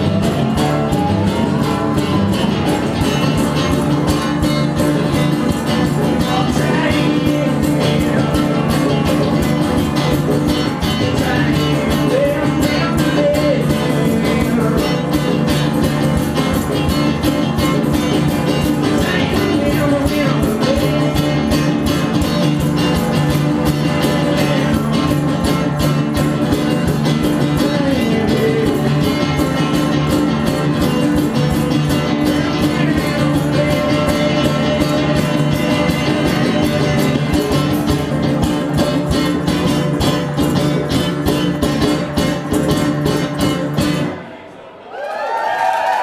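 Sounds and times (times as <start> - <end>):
congas: 0.0 - 44.2
drum kit: 0.0 - 44.2
electric guitar: 0.0 - 44.4.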